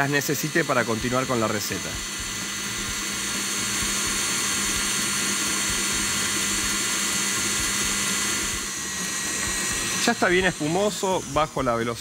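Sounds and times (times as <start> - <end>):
stand mixer whisking: 0.0 - 12.0.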